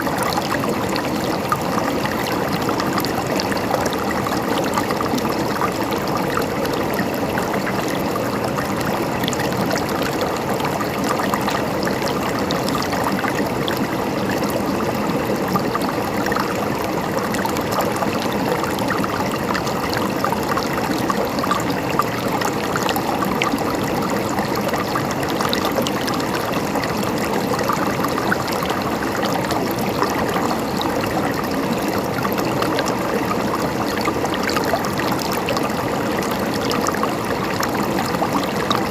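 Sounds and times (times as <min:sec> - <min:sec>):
river water babbling over stones: 0:00.0 - 0:38.9.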